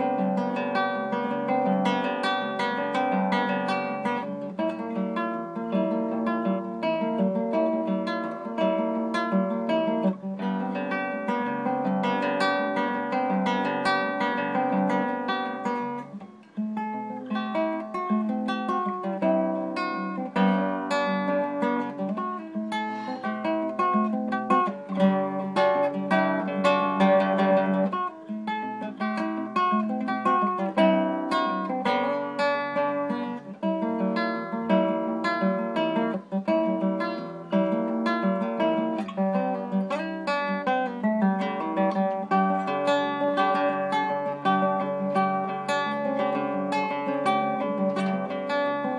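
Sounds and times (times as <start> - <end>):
classical guitar fingerstyle: 0.0 - 48.9.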